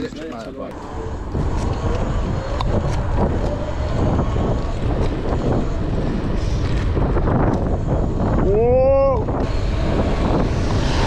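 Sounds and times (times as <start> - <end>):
wind buffeting microphone: 0.7 - 11.0.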